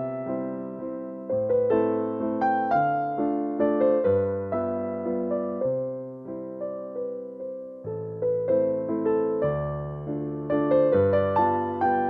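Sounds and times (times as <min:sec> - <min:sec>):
gentle electric piano music: 0:00.0 - 0:12.0.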